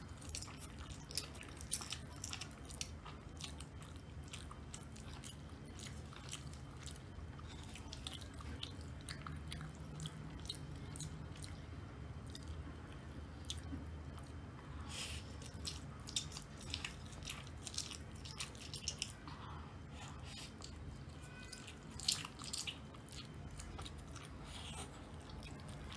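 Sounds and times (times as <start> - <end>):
chewing noodles: 0.0 - 25.9.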